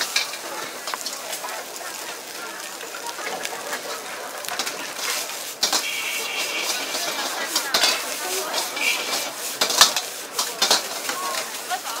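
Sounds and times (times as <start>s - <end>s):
rice sizzling in a wok: 0.0s - 12.0s
spatula scraping wok: 0.0s - 12.0s.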